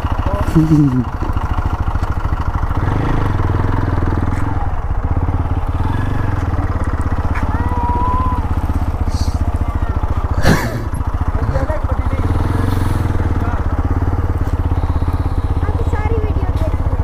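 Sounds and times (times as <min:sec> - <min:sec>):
bus driving past: 0:00.0 - 0:17.0
motorcycle engine idling: 0:00.0 - 0:17.0.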